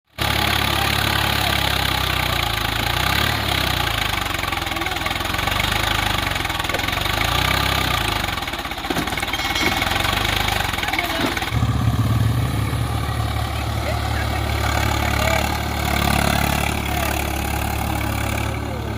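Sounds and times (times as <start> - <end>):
tractor diesel engine running: 0.1 - 18.9.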